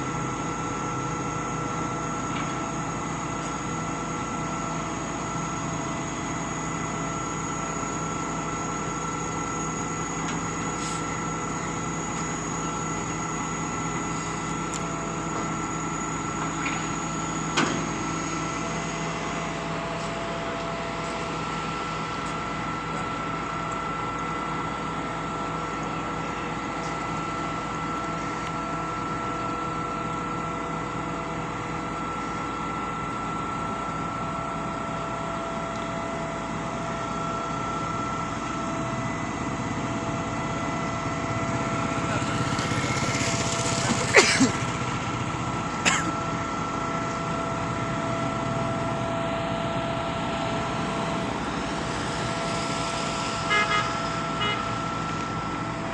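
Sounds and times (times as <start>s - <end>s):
concrete pump machinery whining: 0.0s - 55.9s.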